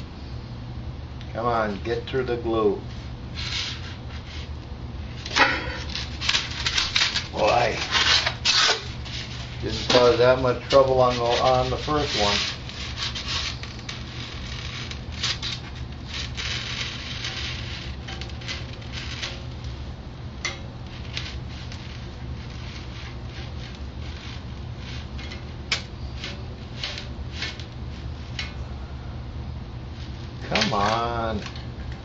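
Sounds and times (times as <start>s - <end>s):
low steady hum: 0.0s - 32.0s
foam rubbing against hot wire: 2.9s - 4.6s, 5.2s - 19.9s, 20.8s - 28.5s, 29.8s - 31.4s.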